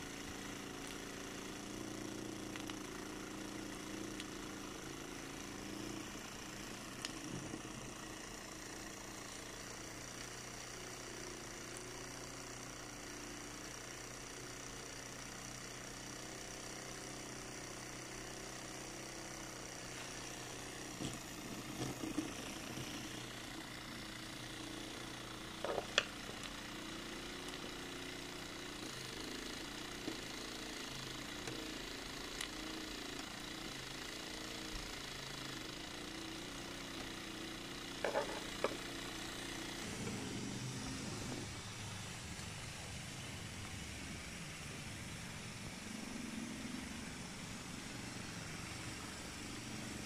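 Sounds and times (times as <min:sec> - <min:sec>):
small steam engine running: 0:00.0 - 0:50.0.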